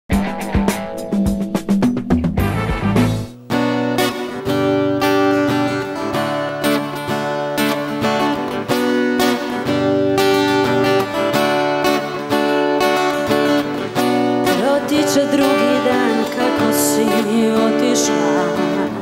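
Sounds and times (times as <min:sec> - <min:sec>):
acoustic guitar strumming chords: 0:00.1 - 0:19.0.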